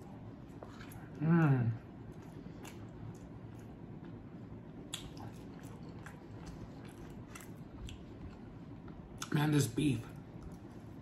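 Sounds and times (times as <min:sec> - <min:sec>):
person chewing food: 0:00.0 - 0:09.4.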